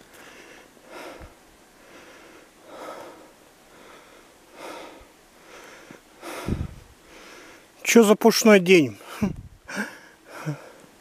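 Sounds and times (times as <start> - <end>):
person breathing hard: 0.1 - 7.8, 9.0 - 11.0.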